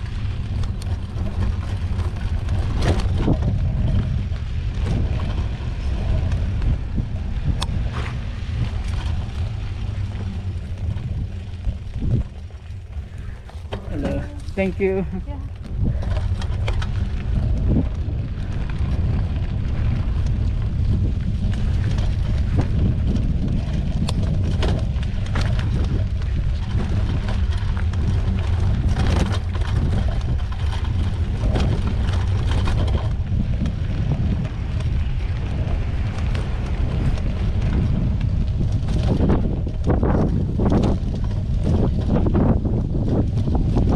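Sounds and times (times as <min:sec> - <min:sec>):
bike clicks and rattles: 0:00.0 - 0:43.9
wind buffeting microphone: 0:00.0 - 0:43.9.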